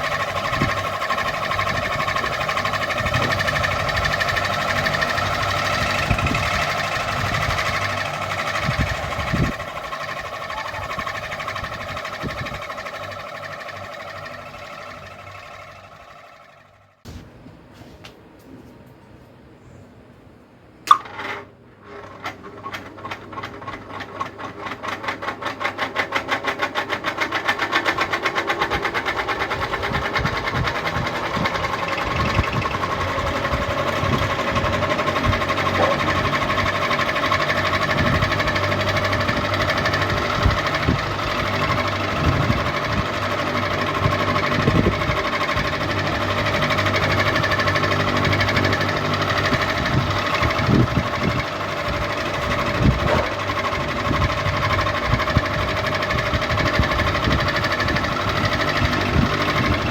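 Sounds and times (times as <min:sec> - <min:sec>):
ceiling fan humming: 0:00.0 - 0:22.0, 0:27.5 - 0:59.9.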